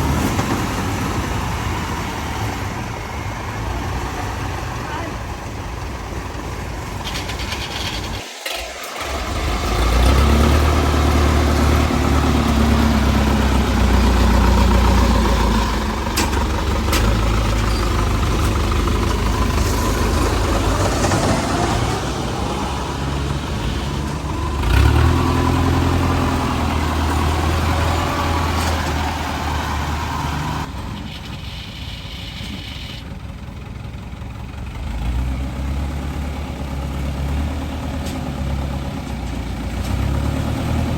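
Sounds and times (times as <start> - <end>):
combine harvester engine revving: 0.0 - 40.9.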